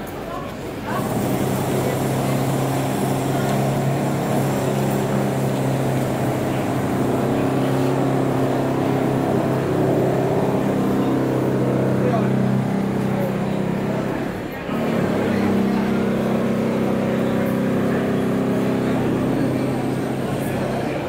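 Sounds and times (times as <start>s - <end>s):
motor humming: 0.8s - 21.0s.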